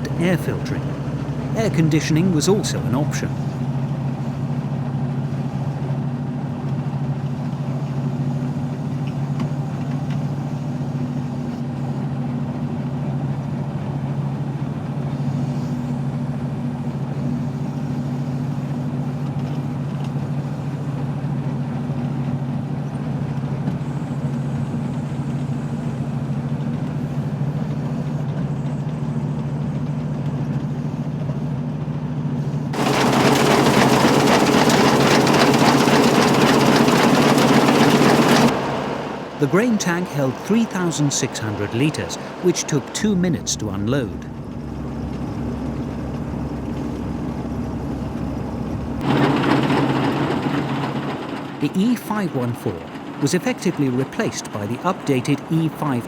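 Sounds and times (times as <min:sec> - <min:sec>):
combine harvester humming: 0:00.0 - 0:56.0.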